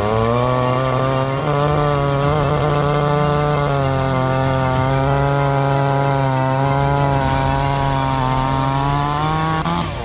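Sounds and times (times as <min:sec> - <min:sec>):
chainsaw cutting through log: 0:00.0 - 0:10.0.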